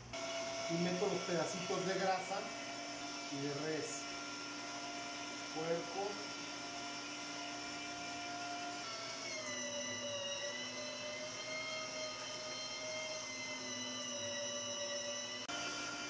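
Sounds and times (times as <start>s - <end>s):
electric meat grinder whine: 0.0s - 16.0s.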